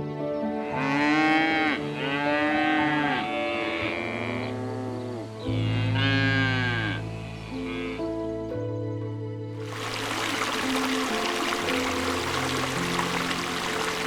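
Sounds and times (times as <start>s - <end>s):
background music held tones: 0.0s - 14.0s.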